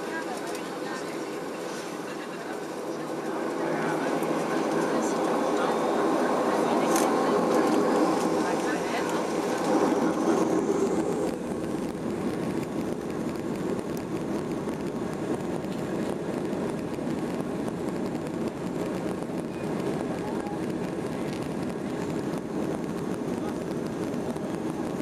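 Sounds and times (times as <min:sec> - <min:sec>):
aircraft engines taxiing rumble: 0:00.0 - 0:25.0.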